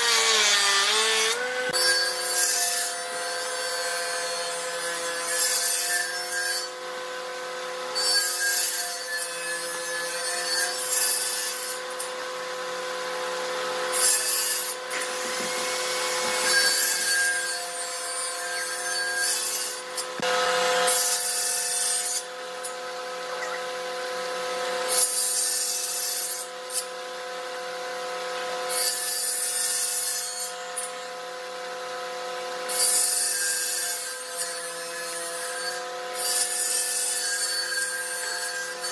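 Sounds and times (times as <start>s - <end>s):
saw blade rasping through wood: 0.0s - 22.8s, 24.7s - 27.0s, 28.7s - 31.2s, 32.6s - 38.9s
table saw humming: 0.0s - 36.5s.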